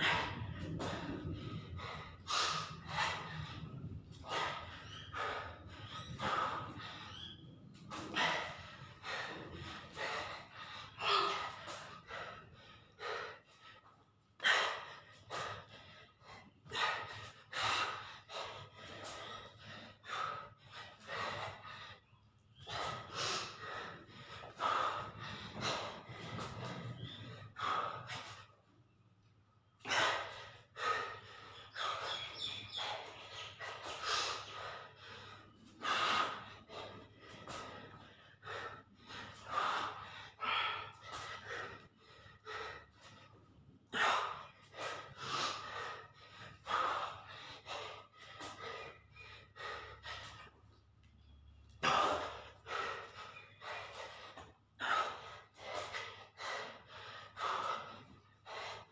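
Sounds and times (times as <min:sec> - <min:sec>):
man panting and gasping: 0:00.0 - 0:58.9.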